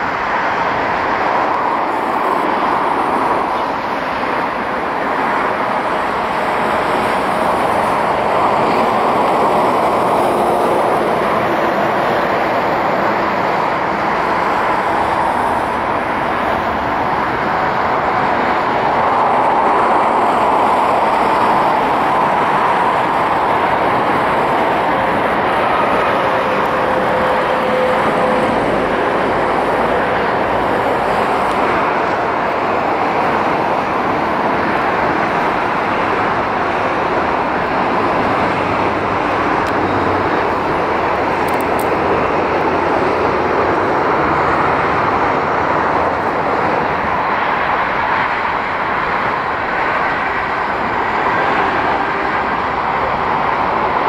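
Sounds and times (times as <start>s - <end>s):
jet engines rushing: 0.0s - 54.0s.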